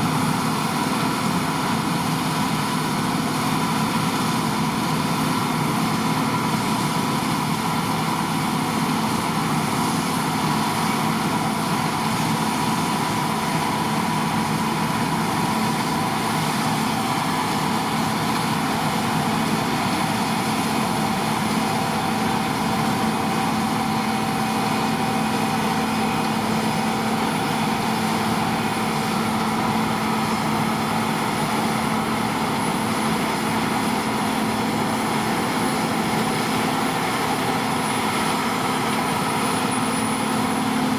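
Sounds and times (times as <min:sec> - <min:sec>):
combine harvester engine drone: 0:00.0 - 0:40.9
high machinery whine: 0:00.0 - 0:40.9.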